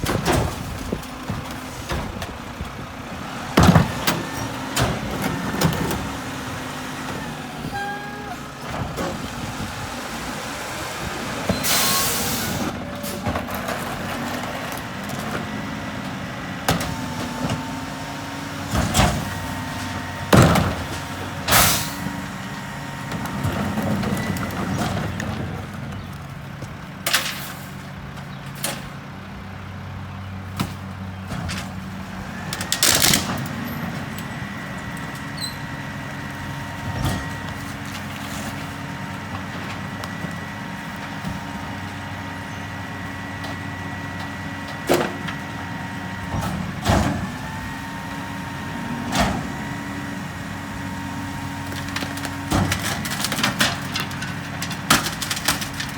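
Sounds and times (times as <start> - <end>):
garbage truck running: 0.0 - 55.9.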